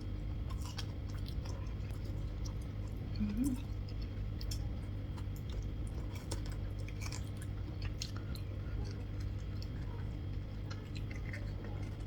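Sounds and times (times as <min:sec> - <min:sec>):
chewing and biting food: 0:00.0 - 0:12.0
steady low hum: 0:00.0 - 0:12.0.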